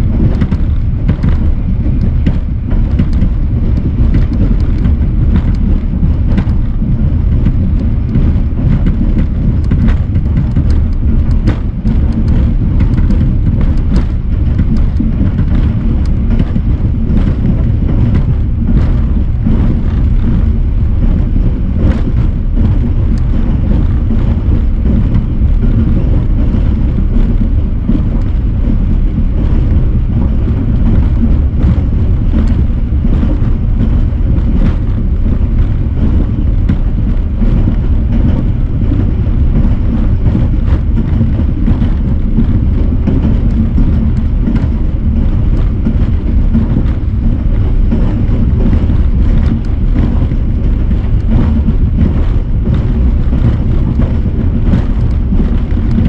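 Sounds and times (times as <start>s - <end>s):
train rumbling on track: 0.0s - 56.0s
wind buffeting microphone: 0.0s - 56.0s.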